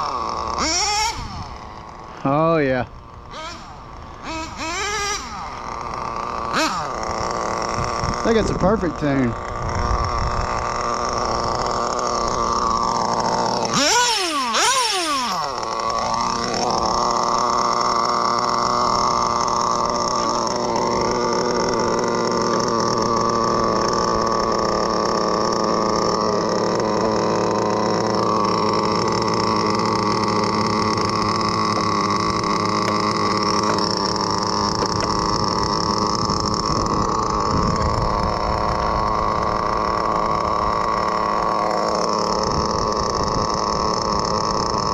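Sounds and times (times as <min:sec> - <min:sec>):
small nitro engine revving: 0:00.0 - 0:44.9.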